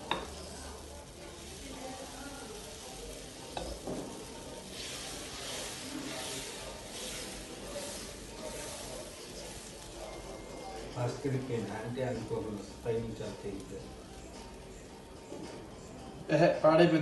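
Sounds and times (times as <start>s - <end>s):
batter sizzling on a griddle: 0.0s - 17.0s.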